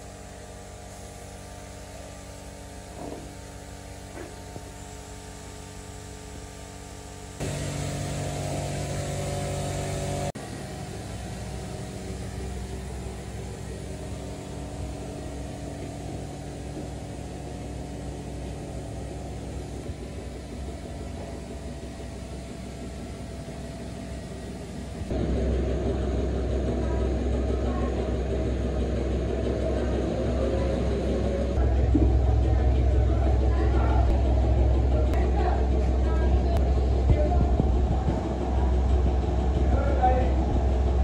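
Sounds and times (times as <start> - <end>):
low mechanical hum: 0.0 - 41.0.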